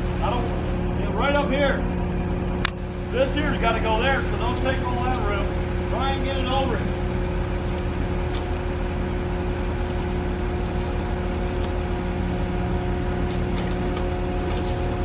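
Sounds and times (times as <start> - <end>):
heavy machinery engine humming: 0.0 - 15.0.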